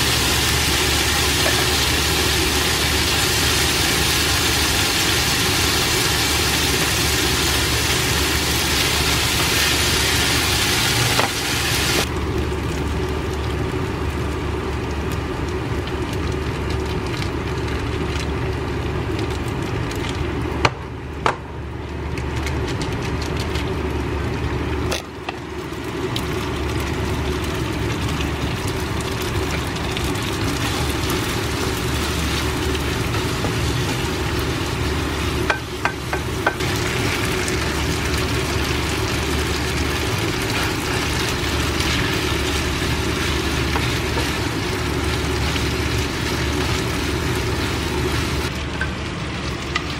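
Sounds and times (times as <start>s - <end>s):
pasta sizzling in a frying pan: 0.0s - 20.6s, 21.6s - 49.9s
steady low mechanical hum: 0.0s - 49.9s.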